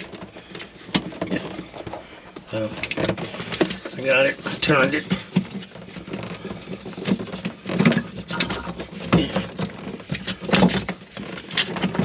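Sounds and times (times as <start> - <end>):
hands working plastic pump: 0.0 - 12.0.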